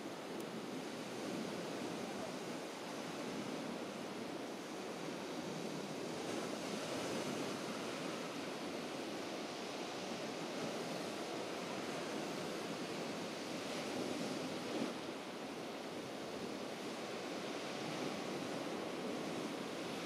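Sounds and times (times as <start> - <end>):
sea surf washing on shore: 0.0 - 20.0.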